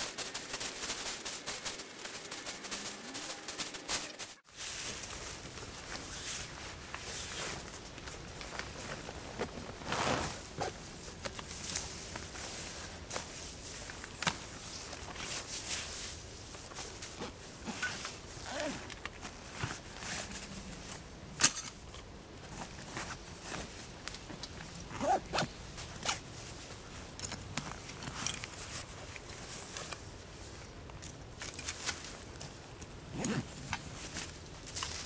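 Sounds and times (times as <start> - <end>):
camping gear rustling and clicking: 0.0 - 35.0.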